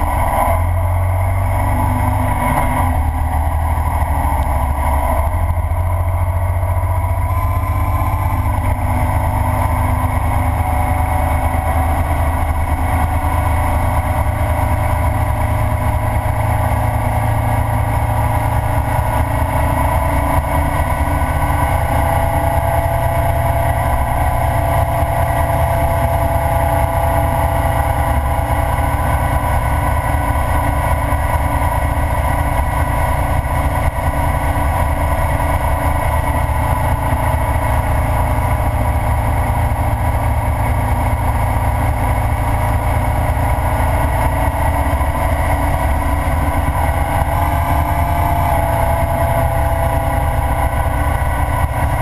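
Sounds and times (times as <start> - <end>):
motorcycle engine cruising: 0.0 - 52.0
road noise: 0.0 - 52.0
wind: 0.0 - 52.0.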